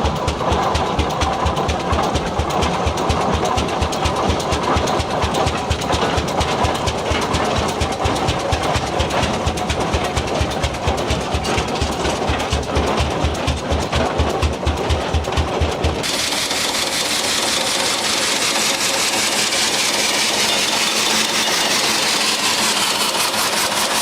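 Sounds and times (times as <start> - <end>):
antique engine running: 0.0 - 24.0.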